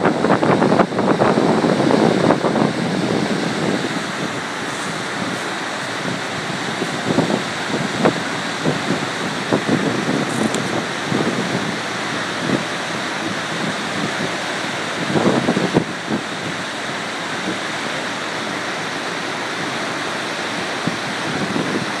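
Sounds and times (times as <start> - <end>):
water rumble: 0.0 - 22.0
whitewater rushing through rapids: 0.0 - 22.0.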